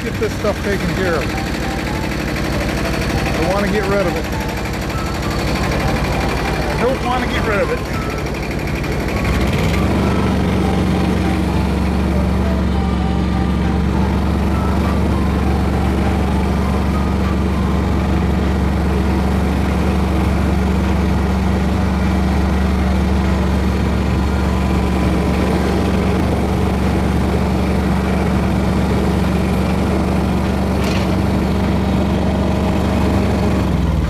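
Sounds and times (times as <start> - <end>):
small engine running: 0.0 - 34.0.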